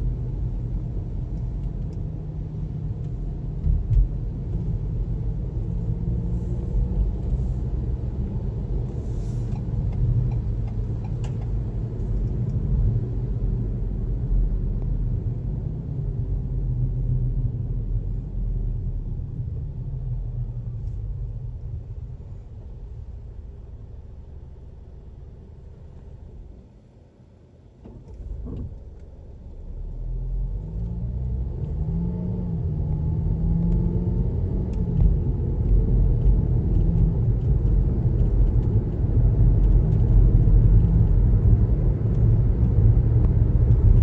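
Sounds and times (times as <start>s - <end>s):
car road rumble: 0.0s - 44.0s.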